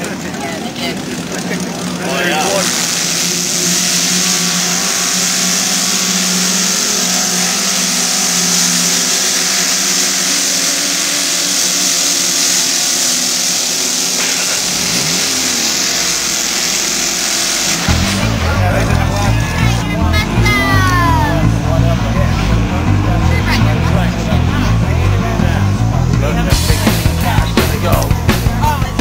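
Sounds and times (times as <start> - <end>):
truck engine at high revs: 0.0 - 29.0
constant hiss: 0.7 - 29.0.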